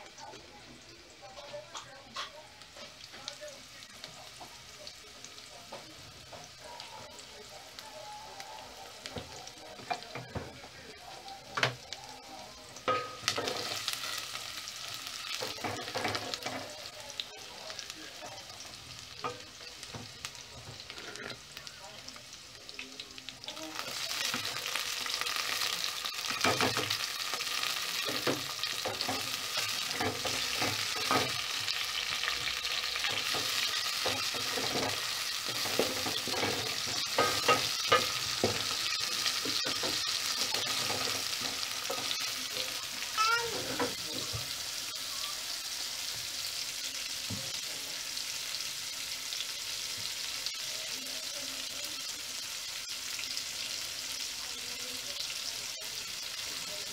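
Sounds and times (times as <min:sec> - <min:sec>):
tomatoes sizzling in hot oil: 0:00.0 - 0:56.9.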